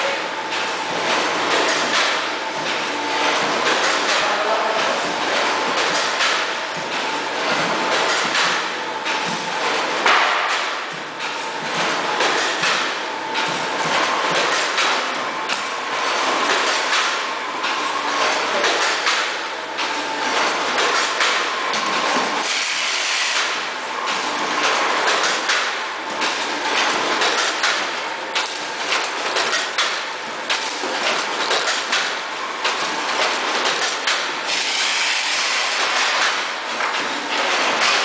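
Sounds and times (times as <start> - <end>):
packing machine clatter: 0.0 - 38.0.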